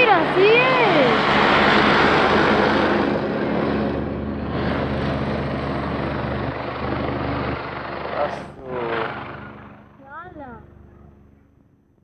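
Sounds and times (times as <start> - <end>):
helicopter flying over: 0.0 - 12.0.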